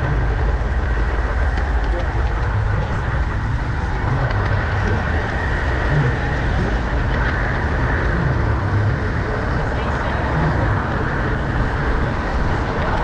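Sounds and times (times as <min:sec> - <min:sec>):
model train rumbling on track: 0:00.0 - 0:13.0.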